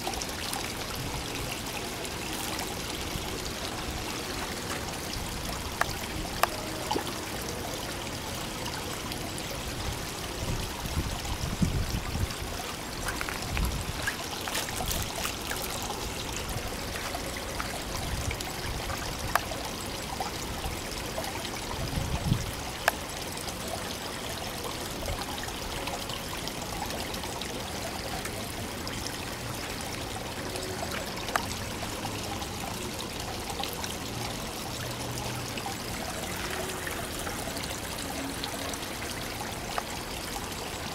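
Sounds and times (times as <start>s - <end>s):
water pouring into pond: 0.0s - 40.9s.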